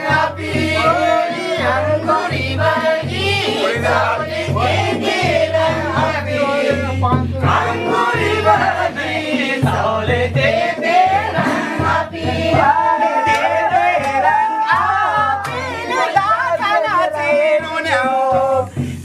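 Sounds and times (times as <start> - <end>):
song with singing: 0.0 - 19.0.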